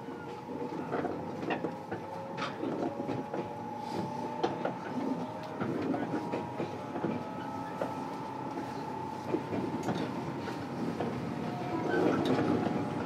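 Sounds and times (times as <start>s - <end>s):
train motor whine: 0.0s - 13.0s
train running noise: 0.0s - 13.0s
wheels clicking over rail joints: 0.0s - 13.0s.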